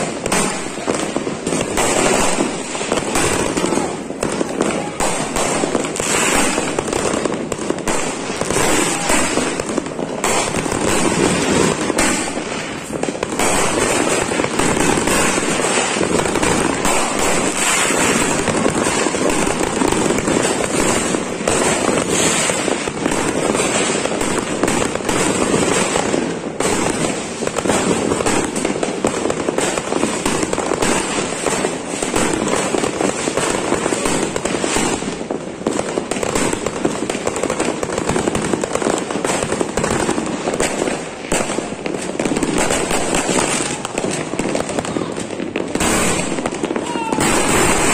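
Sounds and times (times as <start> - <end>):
fireworks and firecrackers banging: 0.0 - 47.9.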